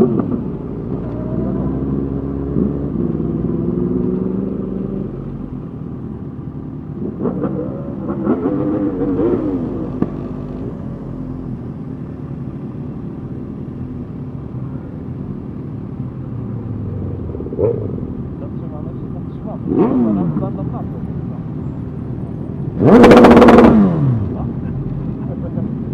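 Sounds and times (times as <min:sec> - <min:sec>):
motorcycle engines revving: 0:00.0 - 0:25.9.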